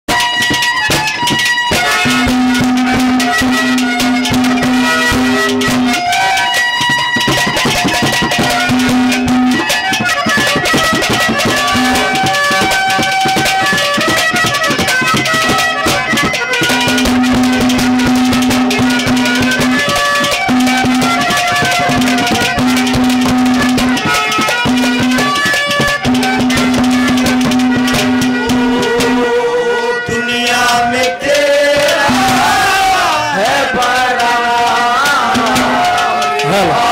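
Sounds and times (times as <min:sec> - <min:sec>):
hand drums fast beat: 0:00.1 - 0:36.9
reed keyboard melody: 0:00.1 - 0:36.9.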